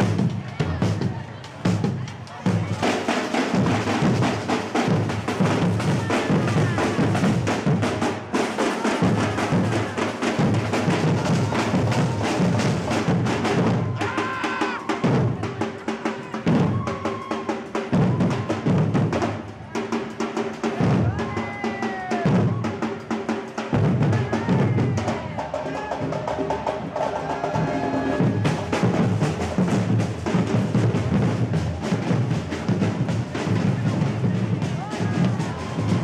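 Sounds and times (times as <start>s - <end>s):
bass and snare drumming: 0.0s - 36.0s.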